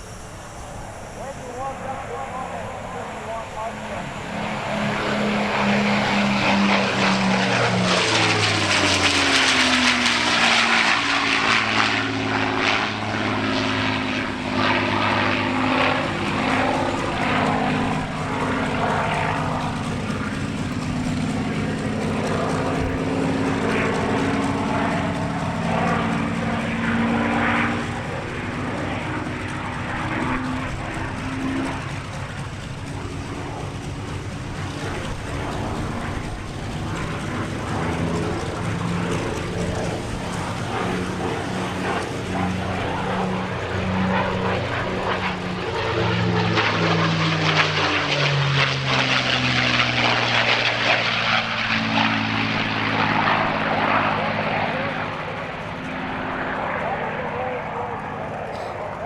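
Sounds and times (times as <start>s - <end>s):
aircraft piston engines passing: 0.0s - 59.0s.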